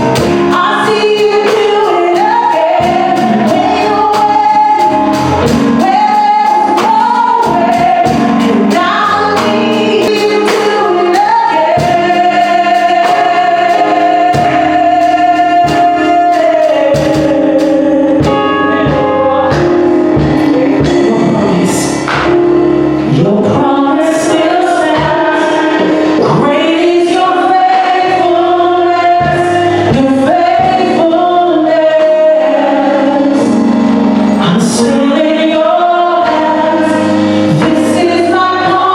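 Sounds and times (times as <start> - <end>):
gospel singers: 0.0 - 38.9
instrumental accompaniment: 0.0 - 38.9.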